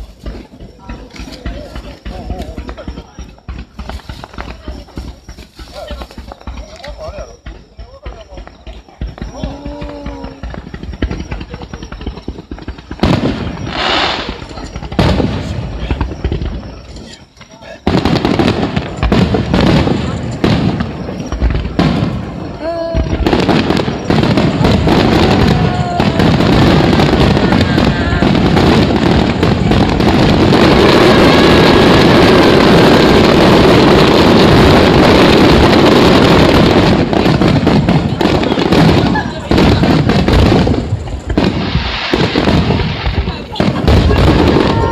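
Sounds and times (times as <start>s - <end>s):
fireworks crackling: 0.0s - 44.9s
loud firework bangs: 0.0s - 44.9s.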